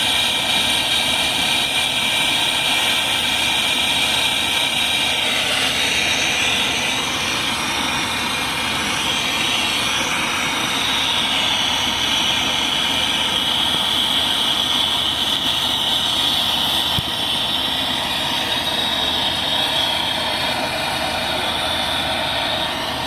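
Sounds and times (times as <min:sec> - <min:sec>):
torch flame hissing: 0:00.0 - 0:23.0.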